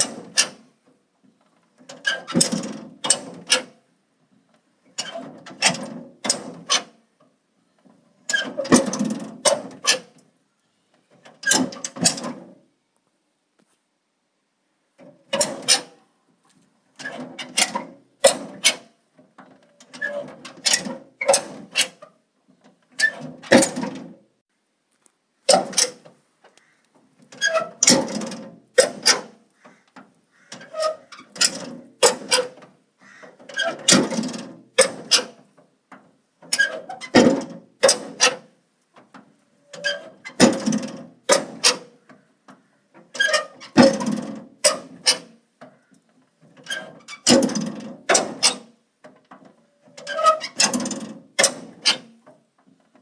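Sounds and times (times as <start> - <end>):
door hinges creaking: 0.0 - 3.8, 4.6 - 10.3, 11.0 - 12.6, 15.0 - 16.2, 16.9 - 24.2, 25.4 - 53.0.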